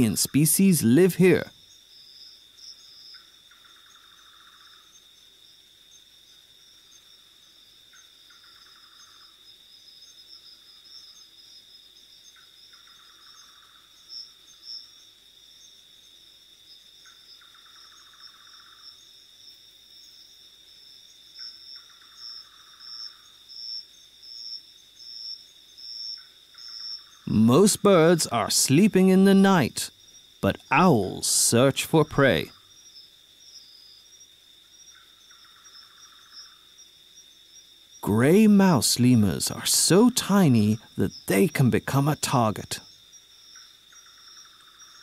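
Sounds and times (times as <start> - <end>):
cricket trill: 0.0 - 45.0
low pulsed insect call: 0.0 - 45.0.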